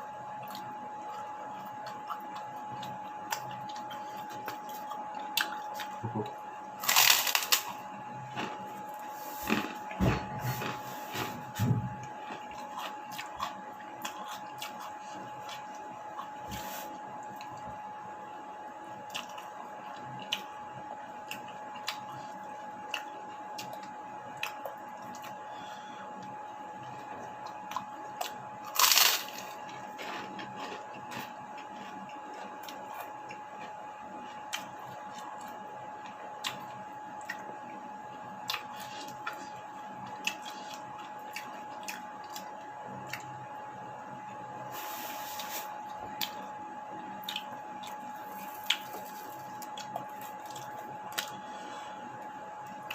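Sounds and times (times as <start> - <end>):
faint steady hum: 0.0 - 52.9
person chewing food: 0.3 - 17.8, 19.0 - 20.5, 21.2 - 43.4, 44.8 - 52.9.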